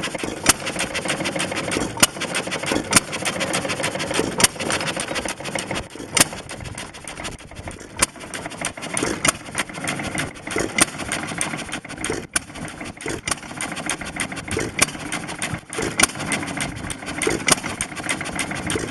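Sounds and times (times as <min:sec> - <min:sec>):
mechanical clatter: 0:00.0 - 0:18.9.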